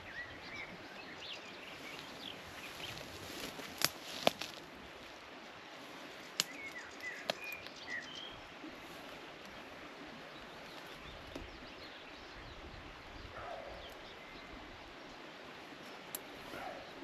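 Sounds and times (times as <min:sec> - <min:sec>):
small birds chirping: 0:00.0 - 0:04.6, 0:05.8 - 0:17.0
steady outdoor background: 0:00.0 - 0:17.0.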